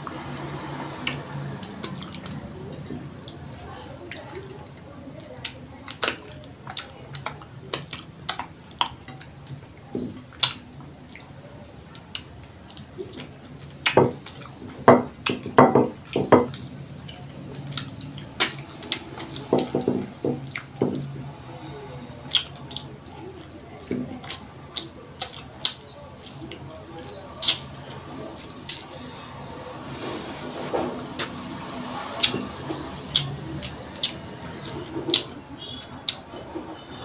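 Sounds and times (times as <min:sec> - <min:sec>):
person chewing and smacking lips: 0:00.0 - 0:03.4, 0:04.0 - 0:29.1, 0:31.1 - 0:37.0.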